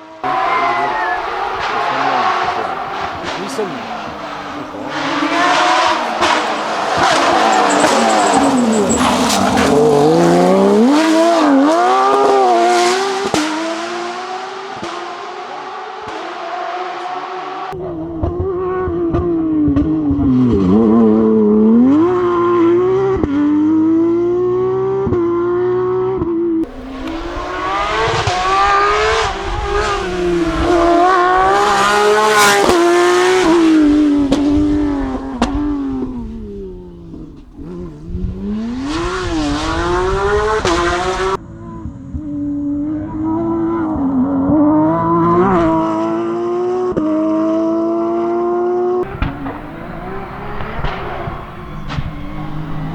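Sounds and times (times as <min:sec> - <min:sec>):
racing engine revving: 0:00.0 - 0:41.4, 0:42.4 - 0:52.9.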